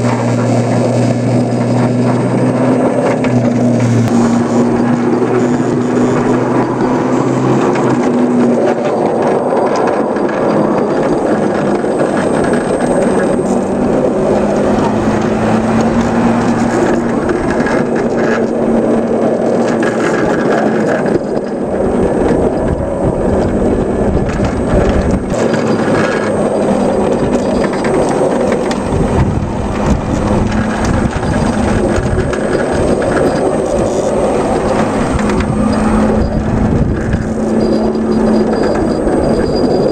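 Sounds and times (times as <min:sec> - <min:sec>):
locomotive motor hum: 0:00.0 - 0:39.9
wheels rumbling on rails: 0:00.0 - 0:39.9.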